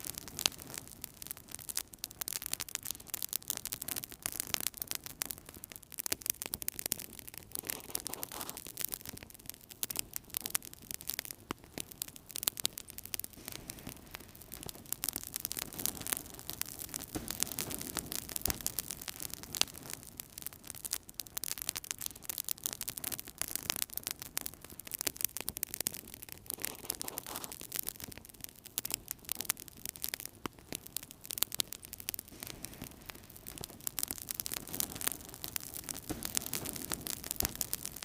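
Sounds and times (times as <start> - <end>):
fire crackling and popping: 0.0 - 38.0
flames hissing: 0.0 - 38.0.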